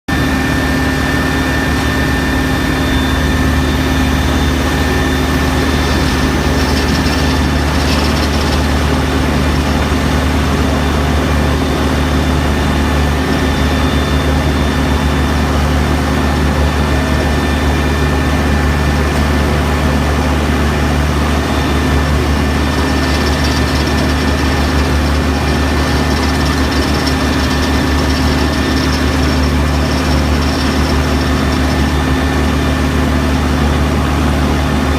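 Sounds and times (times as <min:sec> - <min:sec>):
diesel engine running steadily: 0:00.0 - 0:34.9
thin steady whine: 0:00.1 - 0:34.9.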